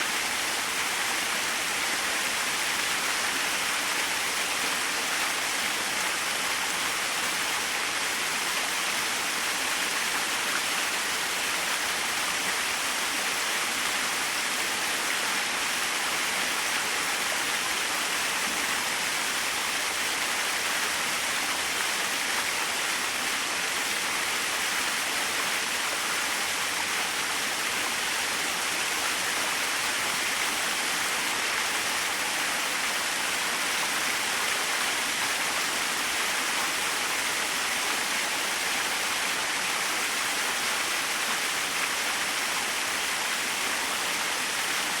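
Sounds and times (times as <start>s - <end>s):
small waterfall splashing: 0.0s - 45.0s.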